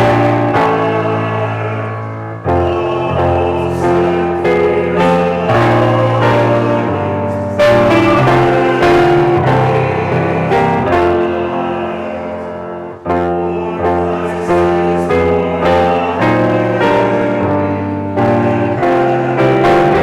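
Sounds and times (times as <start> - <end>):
piano playing slow chords: 0.0 - 20.0.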